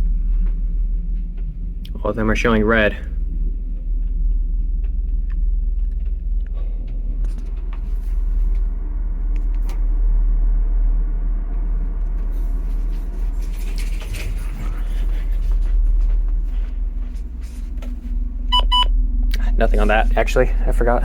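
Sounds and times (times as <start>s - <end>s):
low rumble with deep hum: 0.0s - 21.0s.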